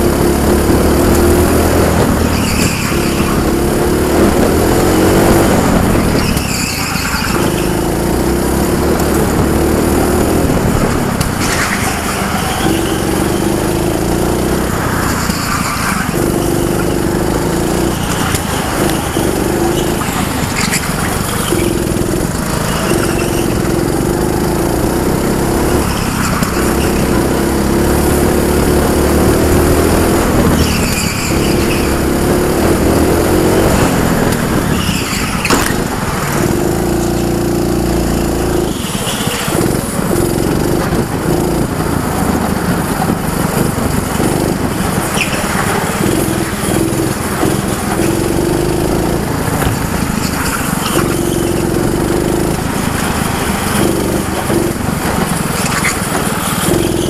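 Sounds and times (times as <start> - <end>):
go-kart engine running hard: 0.0 - 57.0
tyre squeals: 0.0 - 57.0.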